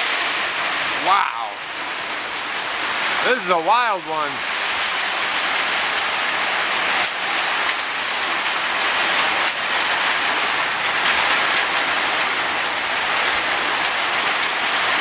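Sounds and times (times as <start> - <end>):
torrential rain pouring: 0.0 - 15.0
hailstones ticking on hard surfaces: 1.8 - 15.0.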